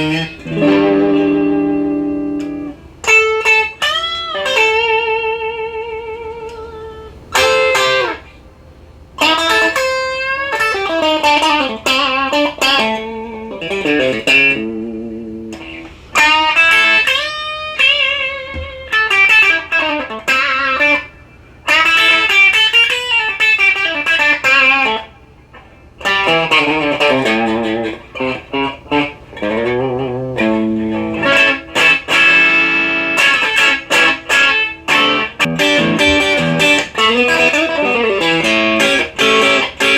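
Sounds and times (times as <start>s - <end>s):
overdriven electric guitar lead: 0.0s - 8.4s, 9.2s - 21.1s, 21.7s - 39.9s.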